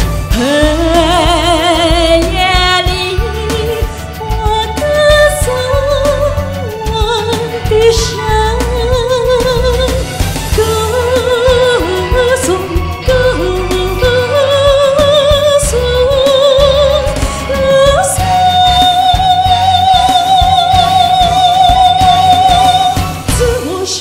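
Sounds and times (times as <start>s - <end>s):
band with bass playing: 0.0s - 24.0s
person singing with vibrato: 0.0s - 24.0s.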